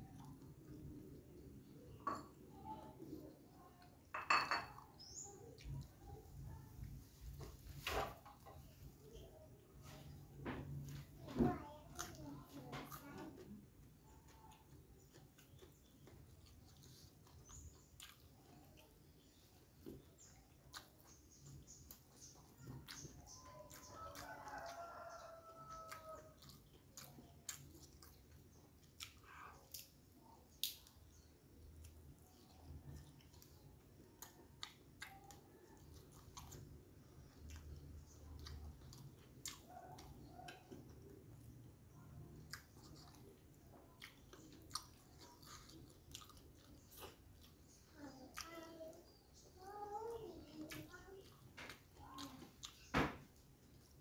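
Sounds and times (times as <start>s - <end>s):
faint chewing: 0.0s - 4.1s, 4.7s - 54.0s.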